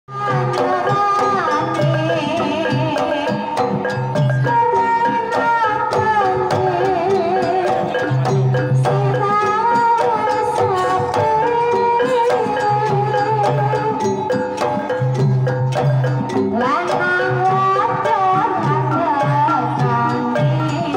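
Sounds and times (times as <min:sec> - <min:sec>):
woman singing ornamented melody: 0:00.1 - 0:08.1, 0:08.7 - 0:14.3, 0:16.5 - 0:20.9
hand drum: 0:00.1 - 0:20.9
struck metallophones: 0:00.1 - 0:20.9.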